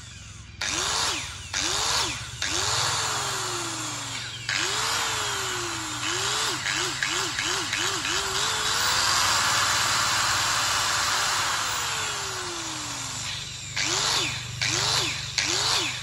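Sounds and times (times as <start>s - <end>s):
angle grinder running: 0.0s - 16.0s.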